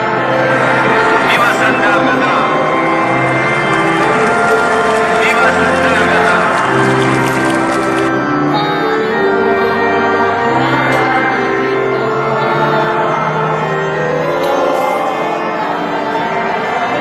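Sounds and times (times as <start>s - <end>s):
choir singing long-held notes: 0.0s - 17.0s.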